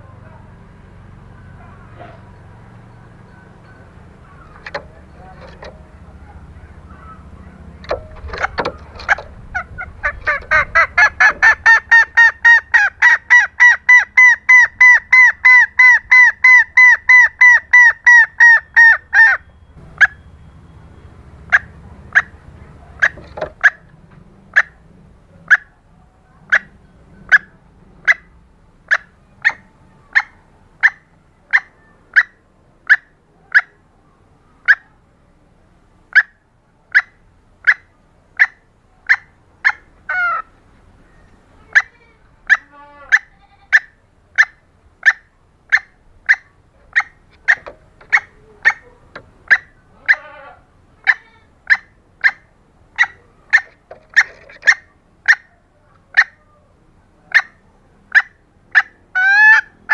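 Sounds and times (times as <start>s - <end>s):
junglefowl clucking: 1.6s - 20.2s, 21.4s - 24.8s, 25.4s - 33.8s, 34.6s - 34.9s, 36.1s - 56.6s, 57.3s - 59.9s.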